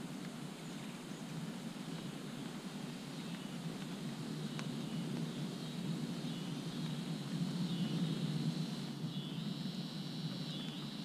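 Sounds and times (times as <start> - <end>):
insect drone: 0.0 - 11.0
steady rain falling: 0.0 - 11.0.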